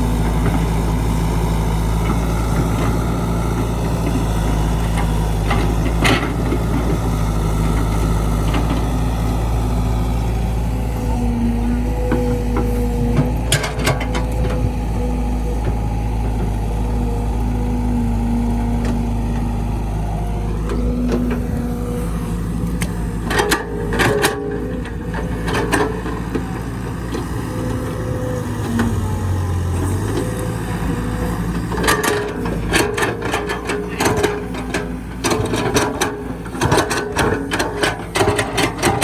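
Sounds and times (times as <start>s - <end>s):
heavy machine engine running: 0.0s - 39.0s.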